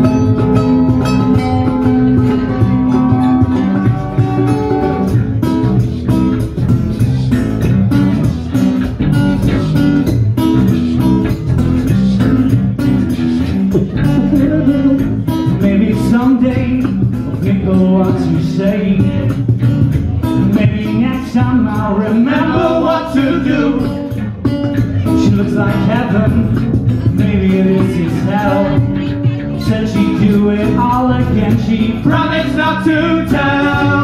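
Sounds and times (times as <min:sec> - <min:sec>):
electric bass guitar: 0:00.0 - 0:34.0
strummed acoustic guitars: 0:00.0 - 0:34.0.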